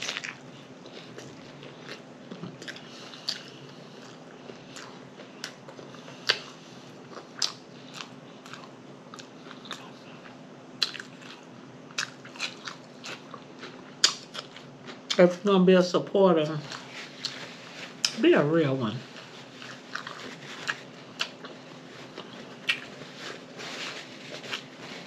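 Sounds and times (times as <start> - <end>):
close chewing crunches: 0.0 - 15.2, 19.2 - 25.0.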